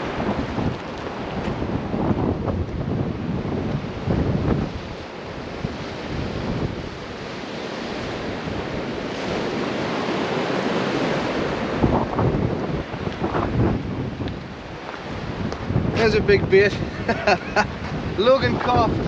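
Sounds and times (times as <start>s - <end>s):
rushing hiss of wind: 0.0s - 19.0s
wind buffeting microphone: 0.0s - 19.0s.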